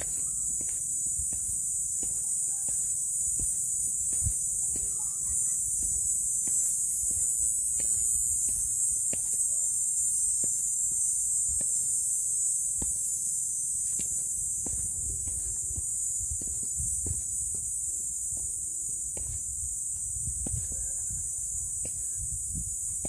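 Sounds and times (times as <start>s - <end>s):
footsteps on concrete steps: 0.0s - 23.0s
insects droning: 0.0s - 23.0s.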